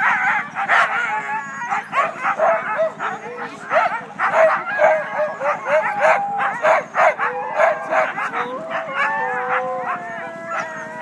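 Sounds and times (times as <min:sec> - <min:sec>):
dogs barking and yipping: 0:00.0 - 0:11.0
dogs howling: 0:00.0 - 0:11.0.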